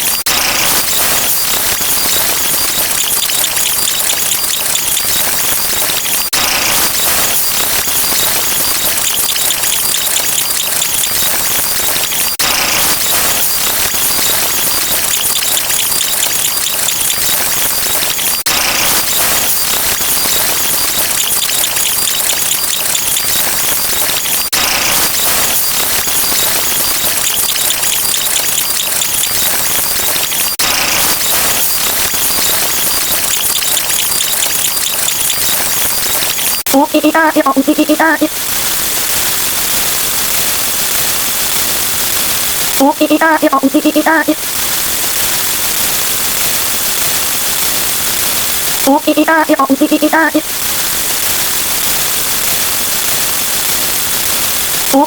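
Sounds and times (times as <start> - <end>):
dense layered sound effects: 0.0 - 55.0.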